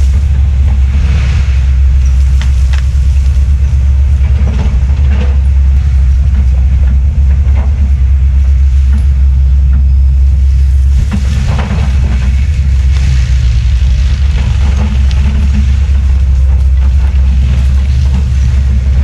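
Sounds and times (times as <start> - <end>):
heavy diesel machinery droning: 0.0 - 19.0.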